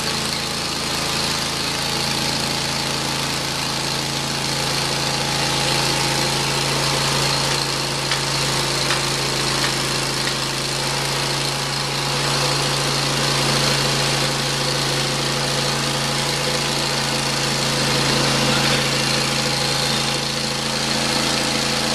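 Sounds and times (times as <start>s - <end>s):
sawmill engine running: 0.0s - 21.9s.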